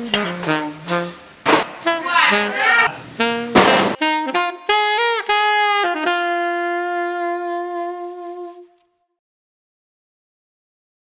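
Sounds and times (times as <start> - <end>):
solo saxophone: 0.0 - 9.2.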